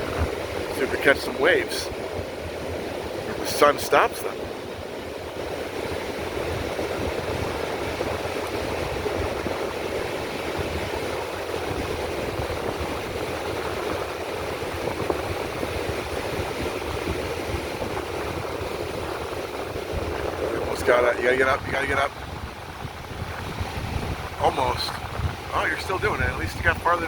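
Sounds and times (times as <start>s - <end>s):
ocean surf on beach: 0.0s - 27.0s
wind gusting on microphone: 0.0s - 27.0s.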